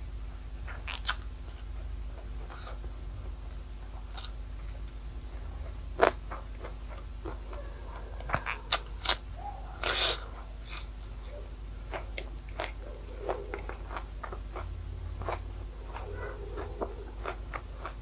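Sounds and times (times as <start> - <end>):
close chewing with wet smacks: 0.7 - 18.0.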